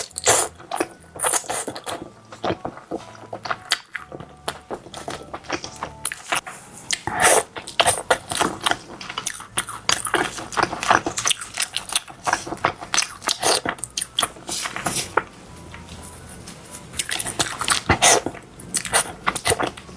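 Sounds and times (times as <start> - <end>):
chewing crunchy food: 0.0 - 15.3, 16.9 - 19.9.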